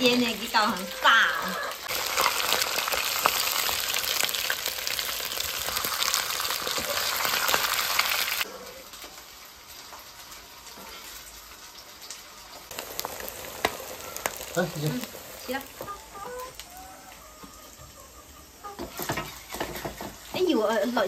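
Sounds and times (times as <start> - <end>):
dumplings sizzling in oil: 0.0 - 21.0
small crackles: 0.3 - 17.8.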